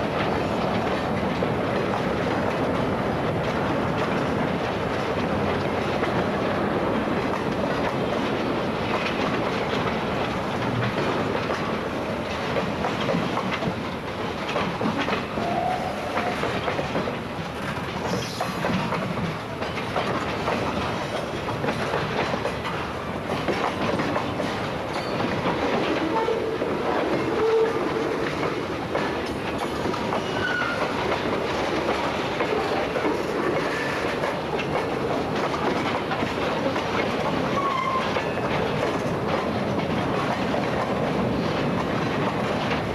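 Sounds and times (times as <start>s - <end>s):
freight train rolling past: 0.0s - 42.9s
wheels clicking over rail joints: 0.0s - 42.9s.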